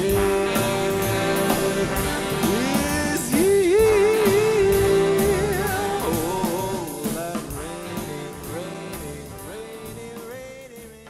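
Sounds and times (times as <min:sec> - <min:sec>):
jazz orchestra playing ballad: 0:00.0 - 0:11.0.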